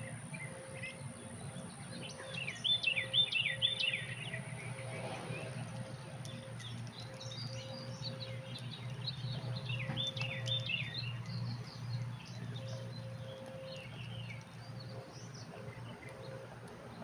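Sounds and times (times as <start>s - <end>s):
birds chirping: 0.0s - 17.0s
low background hum: 0.0s - 17.0s.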